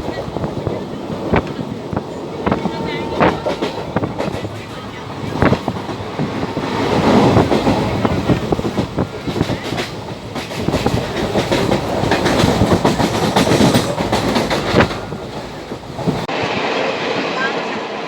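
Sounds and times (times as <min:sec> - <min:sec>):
clickety-clack of rail joints: 0:00.0 - 0:16.3
train wheels rumbling on rails: 0:00.0 - 0:18.0.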